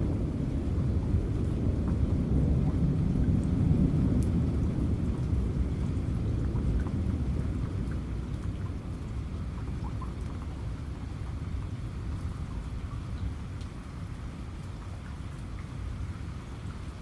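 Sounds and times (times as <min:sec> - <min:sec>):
low rumble of thunder: 0:00.0 - 0:17.0
rain falling: 0:00.0 - 0:17.0.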